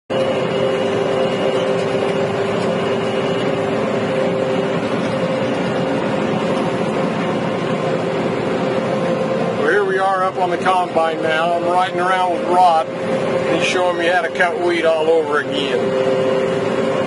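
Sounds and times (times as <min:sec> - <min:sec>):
combine harvester machinery drone: 0:00.1 - 0:17.0.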